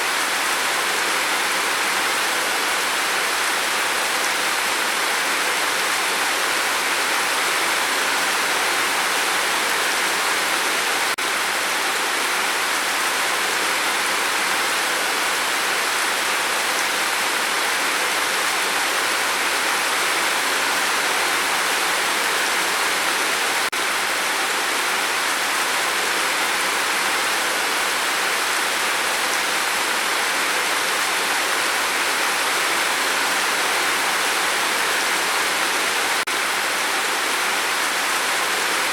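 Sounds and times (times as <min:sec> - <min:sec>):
rain falling steadily: 0:00.0 - 0:38.9.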